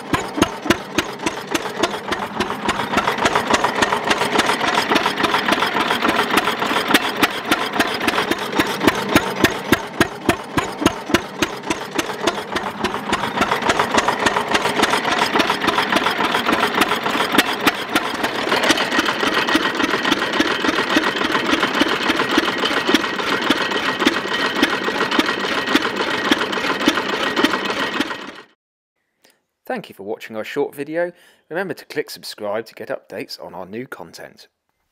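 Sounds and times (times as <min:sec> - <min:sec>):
stationary engine clattering: 0:00.0 - 0:28.6.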